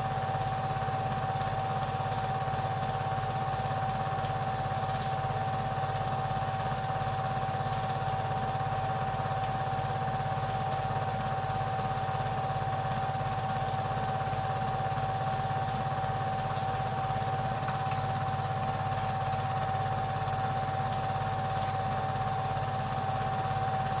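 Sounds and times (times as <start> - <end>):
film projector running: 0.0 - 24.0.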